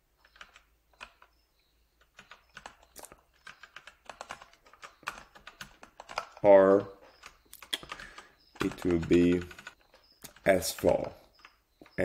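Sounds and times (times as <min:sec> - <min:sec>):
keyboard typing: 0:00.0 - 0:12.0.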